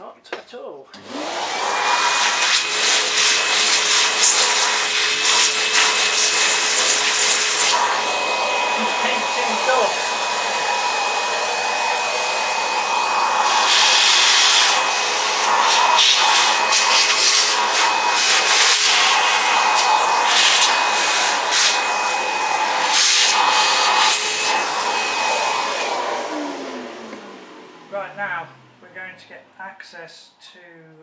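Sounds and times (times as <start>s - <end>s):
vacuum cleaner running: 0.9s - 29.2s.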